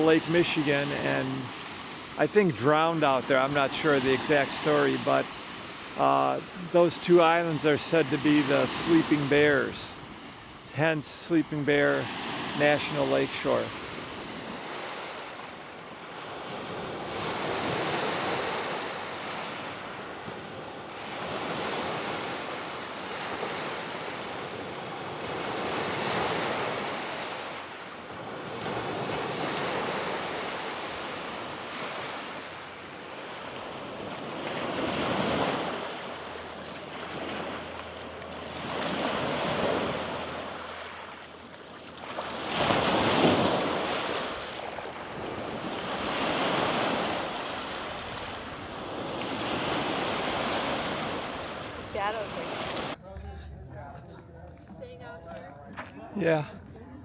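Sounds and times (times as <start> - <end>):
waves washing onto beach: 0.0 - 53.0.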